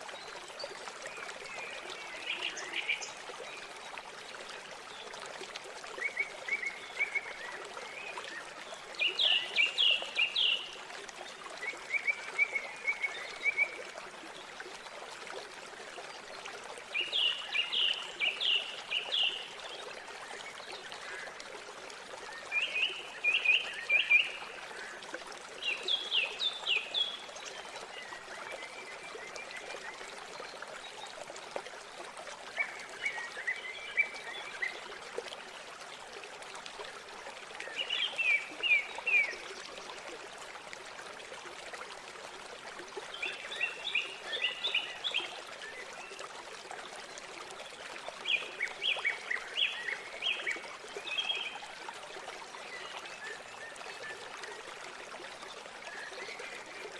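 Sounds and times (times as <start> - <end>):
flowing river water: 0.0 - 56.9.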